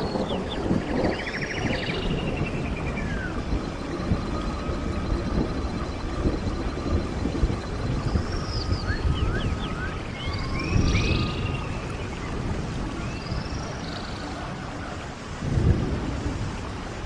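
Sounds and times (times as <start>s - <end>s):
birds singing: 0.0s - 15.1s
stream water rushing: 0.0s - 17.0s.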